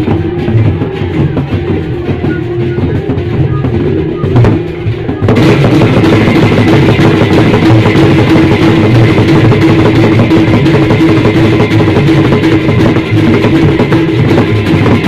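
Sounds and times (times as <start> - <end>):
cymbals clashing: 0.0 - 15.0
hand drums beating: 0.0 - 15.0
small gongs: 0.0 - 15.0.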